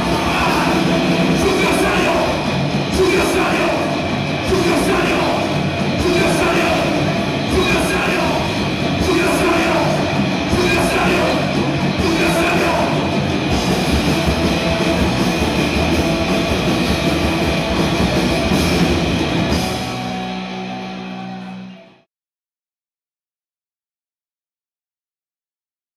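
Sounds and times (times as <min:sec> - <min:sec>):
punk band playing: 0:00.0 - 0:22.0.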